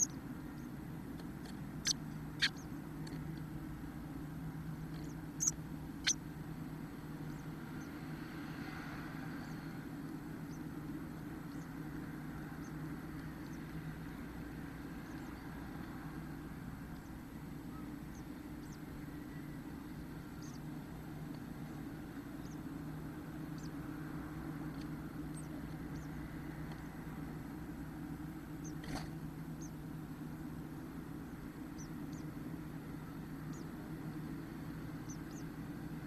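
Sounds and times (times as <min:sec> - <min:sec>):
faint high bird peeps: 0:00.0 - 0:03.5, 0:04.9 - 0:08.1, 0:09.3 - 0:24.0, 0:24.6 - 0:27.0, 0:28.5 - 0:29.9, 0:31.2 - 0:36.0
low electrical hum: 0:00.0 - 0:36.0.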